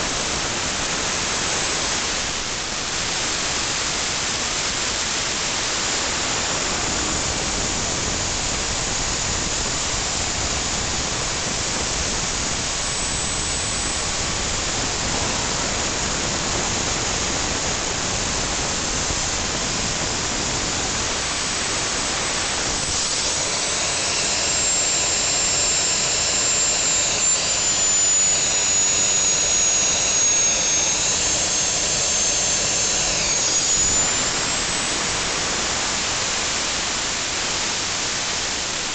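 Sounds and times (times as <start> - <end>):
gas turbine rushing hiss: 0.0 - 38.9
high whine: 3.8 - 37.7.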